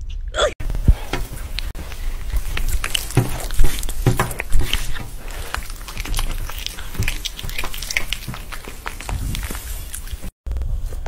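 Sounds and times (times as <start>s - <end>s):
cats chewing and biting: 0.6s - 10.4s.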